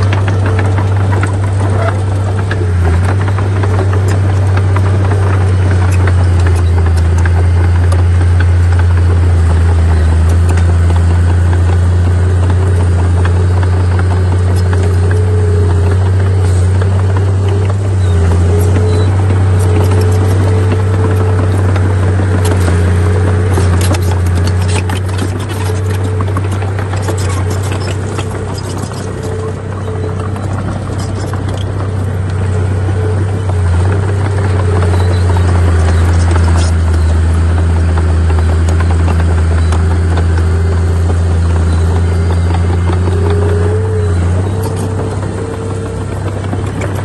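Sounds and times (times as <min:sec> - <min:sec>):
heavy diesel engine droning: 0:00.0 - 0:47.0
light rattling: 0:00.0 - 0:47.0.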